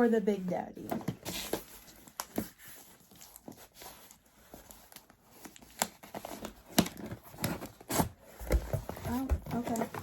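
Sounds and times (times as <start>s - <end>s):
packaging rustling: 0.8s - 10.0s.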